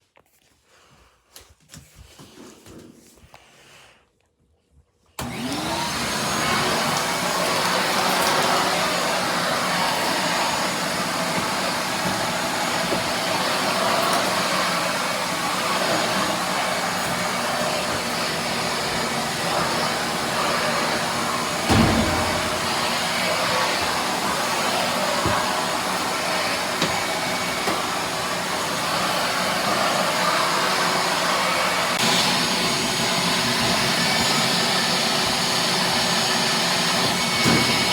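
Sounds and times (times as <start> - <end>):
wet dry vacuum running: 5.2 - 37.9.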